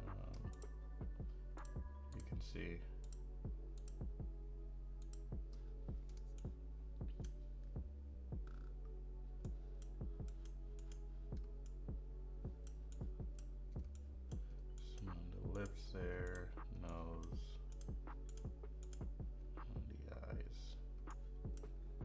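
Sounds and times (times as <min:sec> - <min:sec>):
background music with steady beat: 0:00.0 - 0:22.0.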